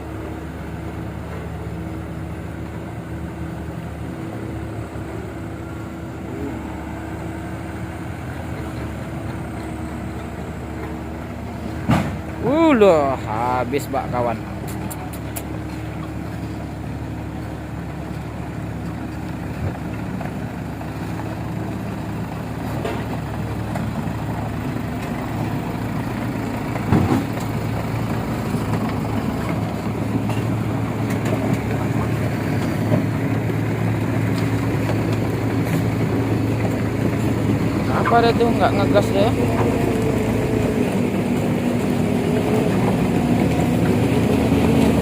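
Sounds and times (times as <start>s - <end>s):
diesel truck engine running: 0.0s - 45.0s.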